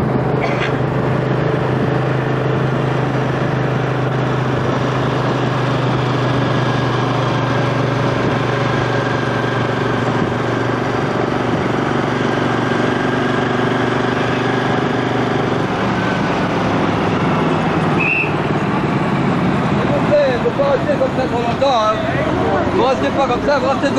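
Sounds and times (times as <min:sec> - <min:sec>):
road noise: 0:00.0 - 0:23.9
vehicle engine running: 0:00.0 - 0:23.9.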